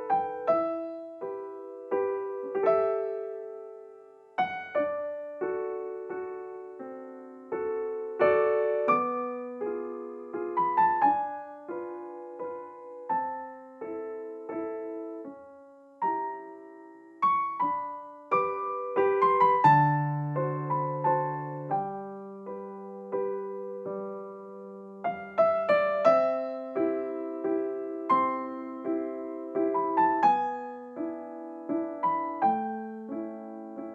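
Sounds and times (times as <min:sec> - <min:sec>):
gentle solo piano: 0:00.0 - 0:33.9.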